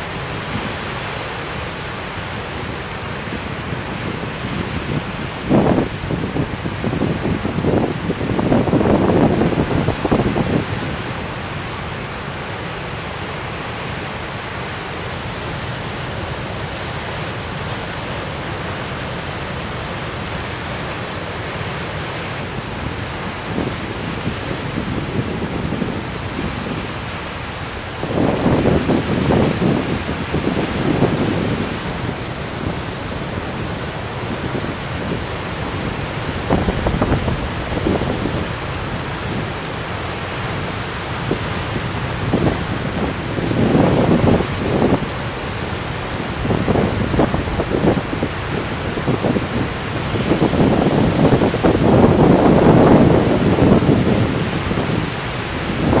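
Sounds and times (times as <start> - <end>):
waves breaking: 0.0 - 56.0
wind: 0.0 - 56.0.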